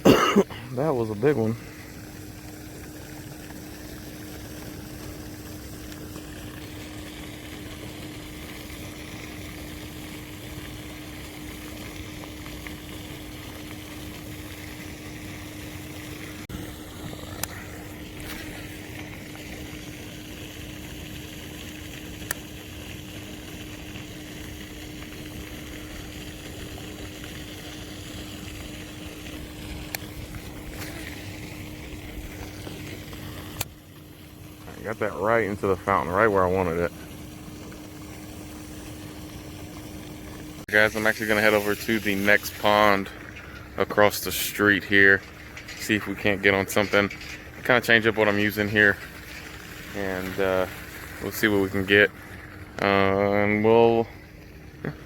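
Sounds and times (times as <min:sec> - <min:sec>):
fountain splashing: 0:00.0 - 0:55.0
steady hum: 0:00.0 - 0:55.0.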